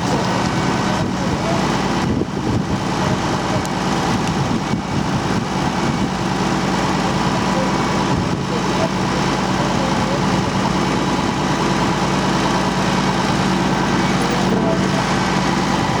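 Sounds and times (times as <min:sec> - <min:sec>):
heavy vehicle engine idling: 0:00.0 - 0:16.0.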